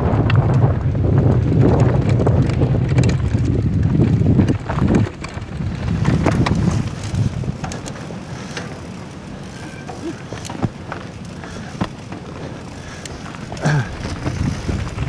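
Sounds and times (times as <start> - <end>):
wind rushing over microphone: 0.0 - 15.0
bike and stones clattering: 0.1 - 15.0
tyres crunching on gravel: 1.3 - 15.0.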